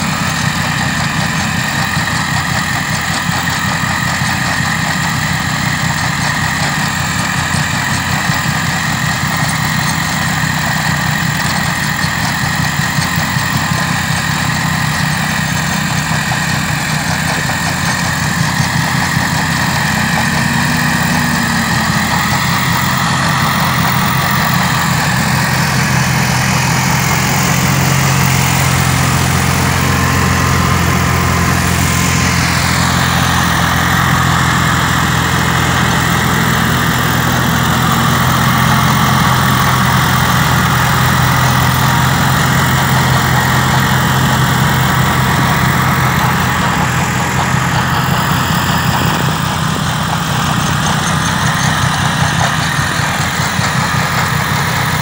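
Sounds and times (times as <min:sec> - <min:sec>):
snow blower rushing hiss: 0:00.0 - 0:55.0
tractor diesel engine running: 0:00.0 - 0:55.0.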